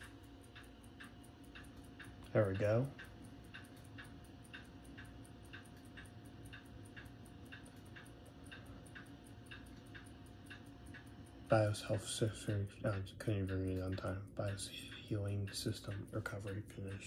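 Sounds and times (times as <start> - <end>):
clock ticking: 0.0 - 17.0
faint steady hum: 0.0 - 17.0.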